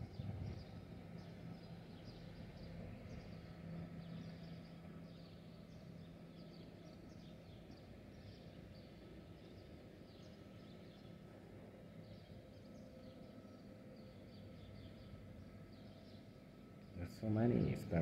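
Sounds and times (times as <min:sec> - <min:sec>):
sparrows chirping: 0:00.0 - 0:18.0
steady low hum: 0:00.0 - 0:18.0.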